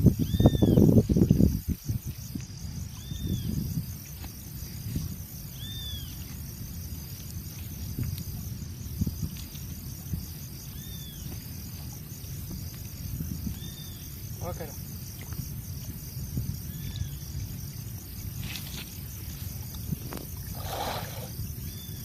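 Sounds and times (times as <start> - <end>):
insect chirring: 0.0 - 22.0.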